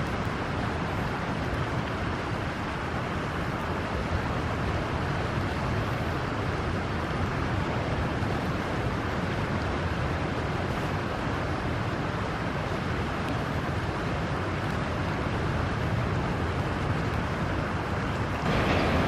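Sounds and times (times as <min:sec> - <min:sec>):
river running over stones: 0:00.0 - 0:19.0.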